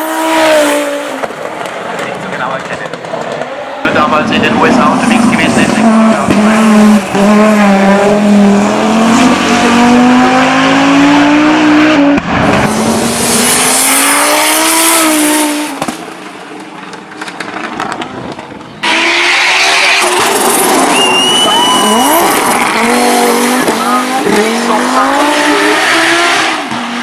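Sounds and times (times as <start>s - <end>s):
car engine accelerating hard: 0.0s - 16.3s, 17.2s - 27.0s.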